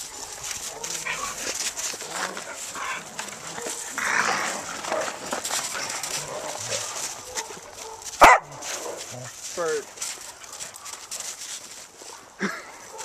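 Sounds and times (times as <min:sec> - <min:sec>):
dog paws scuffling on snow: 0:00.0 - 0:13.0.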